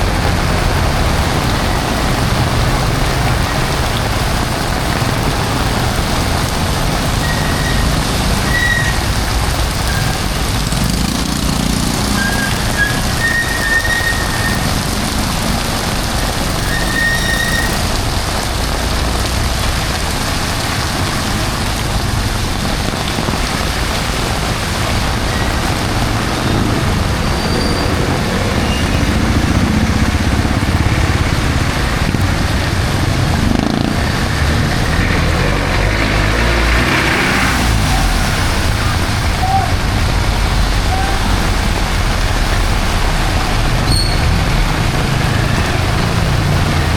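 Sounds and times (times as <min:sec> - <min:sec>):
heavy rain falling: 0:00.0 - 0:46.9
traffic passing on wet road: 0:00.0 - 0:46.9.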